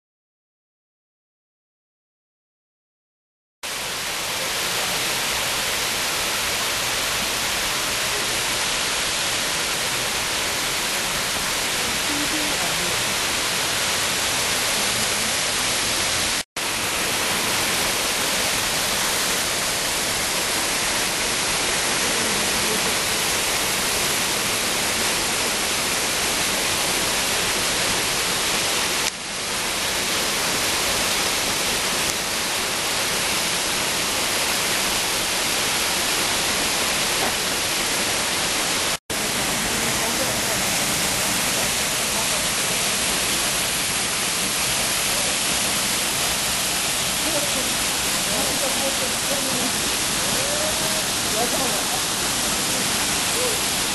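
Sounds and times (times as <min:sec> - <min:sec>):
waterfall rushing: 0:03.7 - 0:53.9.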